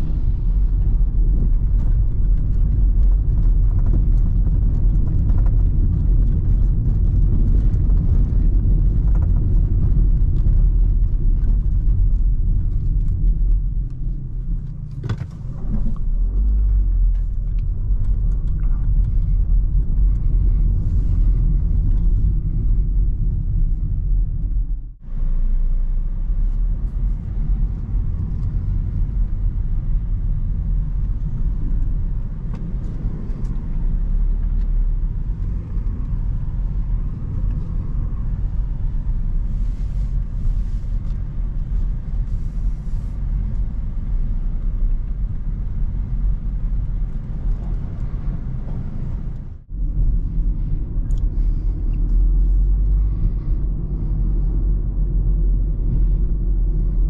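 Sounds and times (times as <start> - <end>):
car engine and tyre noise: 0.0 - 57.0.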